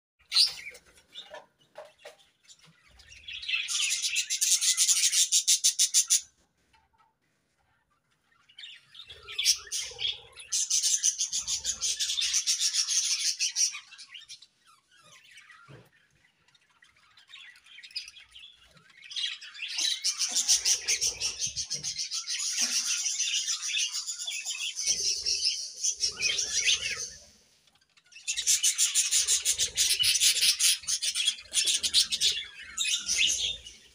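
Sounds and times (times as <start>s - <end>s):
budgerigars chirping: 2.6s - 6.3s, 8.4s - 27.4s, 28.1s - 33.9s.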